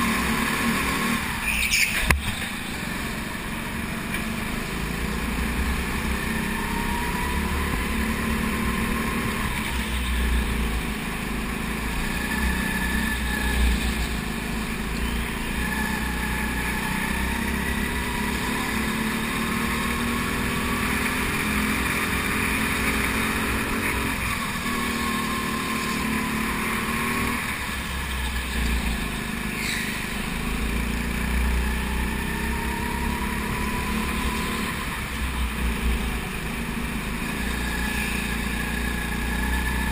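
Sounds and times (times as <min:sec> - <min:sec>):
go-kart engine: 0:00.0 - 0:39.9.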